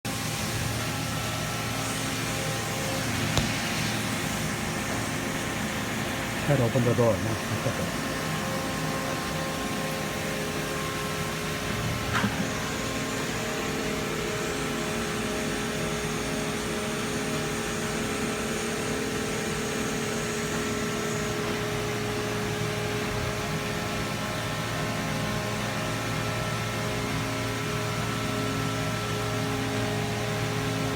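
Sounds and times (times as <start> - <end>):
milling machine humming: 0.1 - 30.9.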